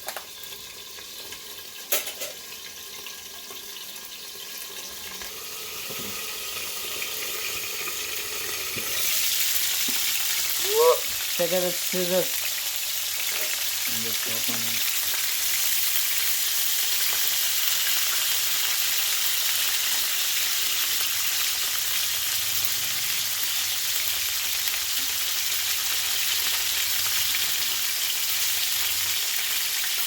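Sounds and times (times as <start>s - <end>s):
chicken frying in hot oil: 0.0s - 30.0s.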